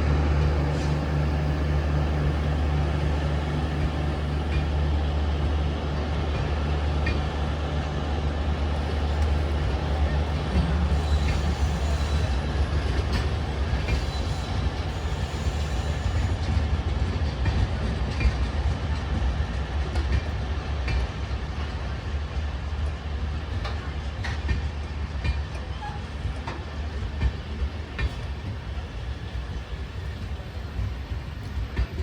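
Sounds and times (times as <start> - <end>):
train rumbling on track: 0.0 - 32.0.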